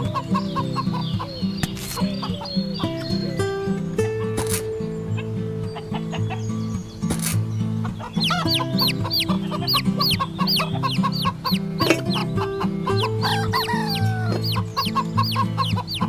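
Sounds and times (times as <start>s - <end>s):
chirp-like high notes: 0.0s - 16.0s.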